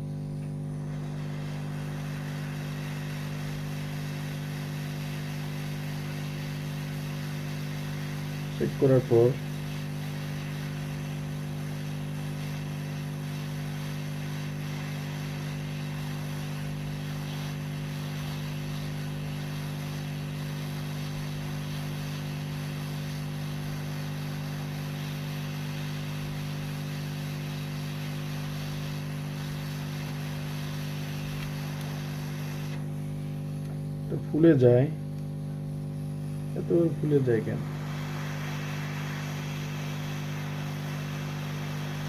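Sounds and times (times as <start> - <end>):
hot air station fan drone: 0.0 - 35.2, 35.8 - 42.0
hiss of air: 0.0 - 42.0.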